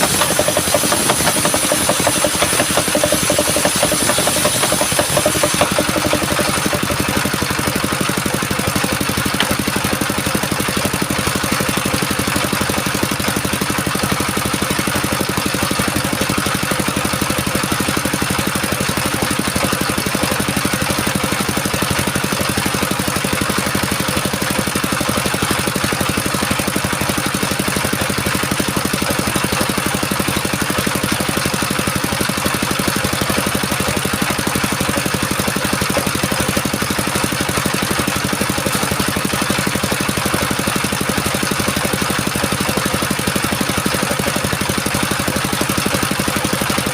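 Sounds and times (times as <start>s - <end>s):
sawmill engine running: 0.0s - 46.9s.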